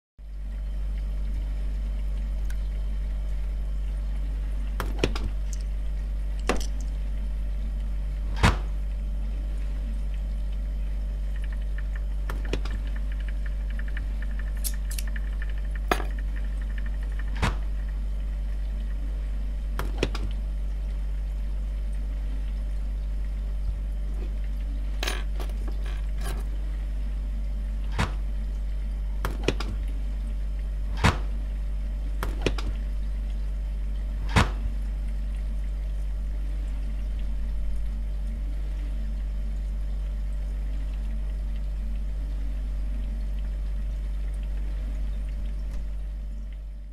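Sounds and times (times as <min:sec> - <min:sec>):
refrigerator hum: 0:00.2 - 0:46.9.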